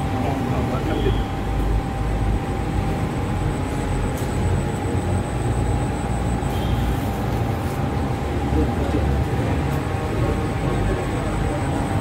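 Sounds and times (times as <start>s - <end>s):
faint constant whine: 0.0s - 12.0s.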